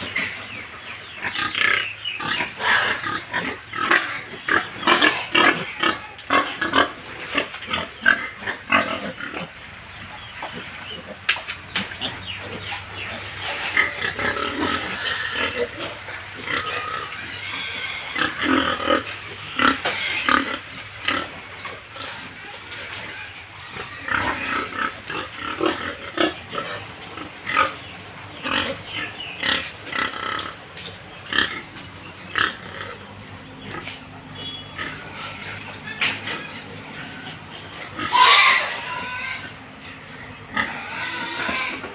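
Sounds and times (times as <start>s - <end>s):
pigs calling: 0.0s - 41.9s.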